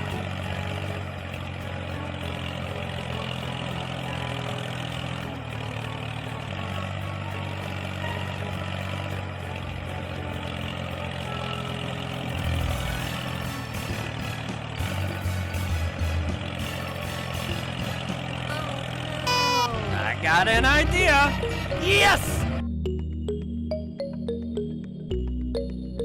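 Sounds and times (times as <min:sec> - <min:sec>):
truck engine idling: 0:00.0 - 0:23.8.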